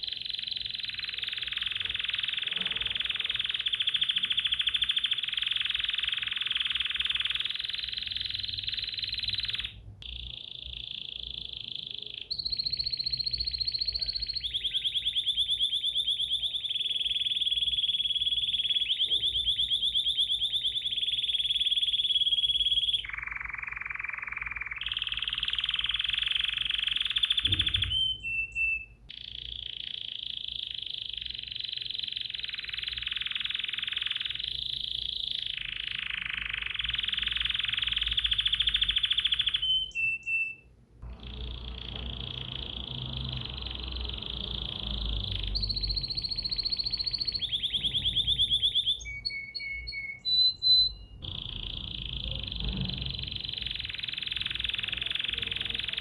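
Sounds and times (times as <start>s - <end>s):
songbird singing rapid trills: 0.0s - 56.0s.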